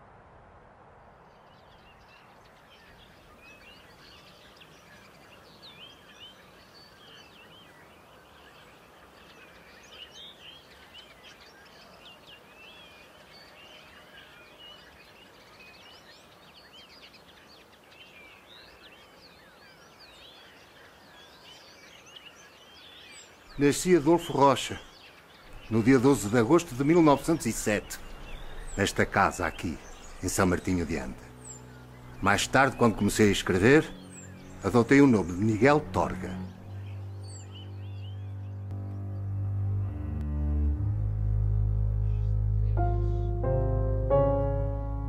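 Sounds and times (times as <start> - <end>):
low background noise: 0.0 - 45.0
small birds chirping: 1.1 - 39.6, 41.9 - 45.0.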